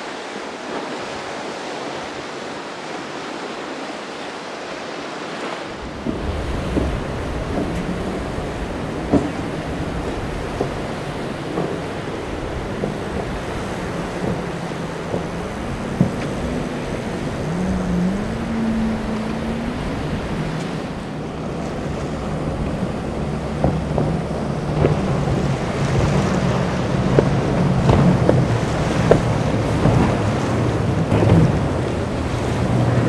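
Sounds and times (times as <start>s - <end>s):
hull slapping waves: 0.0s - 33.0s
spray and waves rushing: 0.0s - 33.0s
wind buffeting microphone: 5.6s - 33.0s
boat engines running hard: 5.7s - 33.0s.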